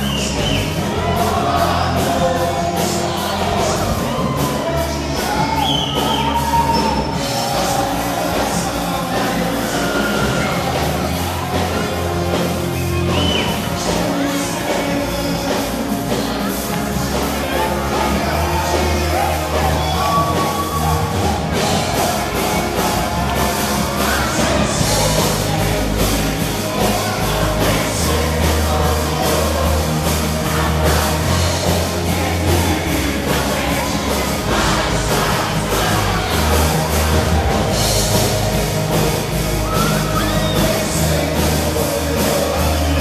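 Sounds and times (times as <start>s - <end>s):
bass line: 0.0s - 43.0s
drums: 0.0s - 43.0s
person singing: 0.0s - 43.0s.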